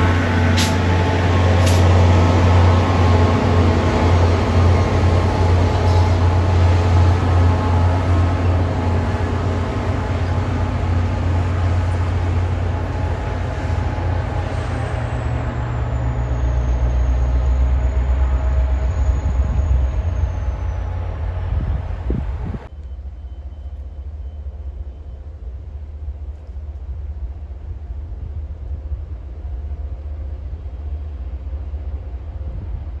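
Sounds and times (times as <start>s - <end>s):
diesel locomotive drone: 0.0s - 33.0s
train rumble: 0.0s - 33.0s.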